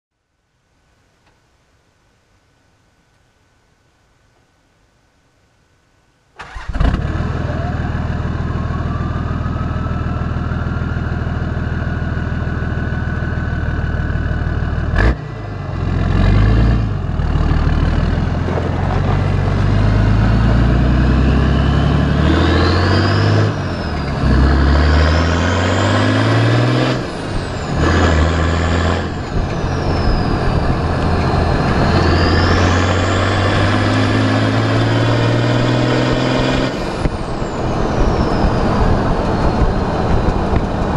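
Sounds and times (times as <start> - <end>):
diesel engine exhaust: 6.4 - 40.9.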